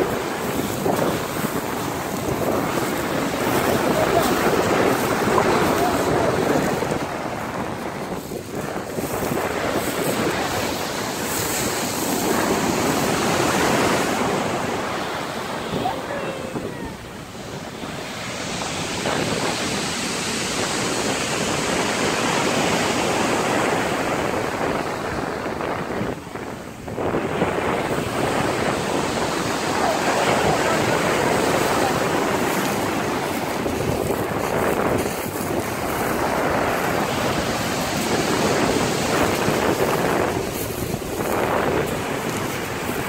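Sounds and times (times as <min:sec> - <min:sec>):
surf breaking on pebble beach: 0:00.0 - 0:43.0.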